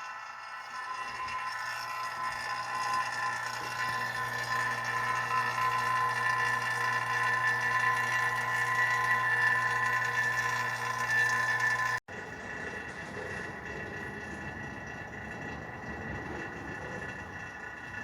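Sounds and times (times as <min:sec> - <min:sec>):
vacuum pump humming and whining: 0:00.0 - 0:18.0.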